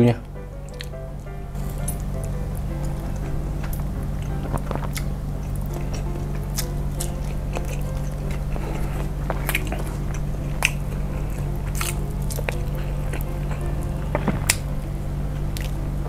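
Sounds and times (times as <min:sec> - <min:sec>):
steady low hum: 0:00.0 - 0:16.0
chewing and wet mouth sounds: 0:00.6 - 0:14.8.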